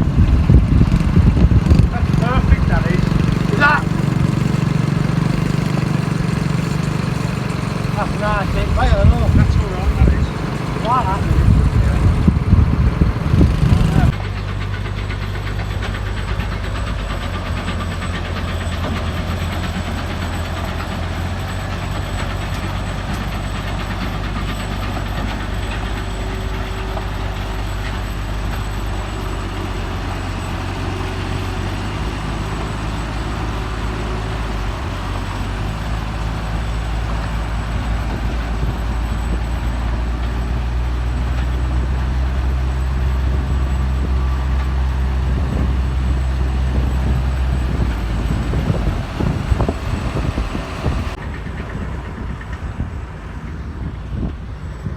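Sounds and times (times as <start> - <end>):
tractor engine under load: 0.0 - 54.9.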